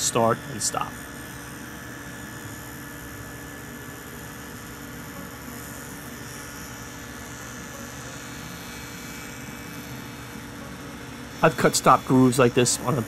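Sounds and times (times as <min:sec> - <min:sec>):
table saw whirring: 0:00.0 - 0:13.0.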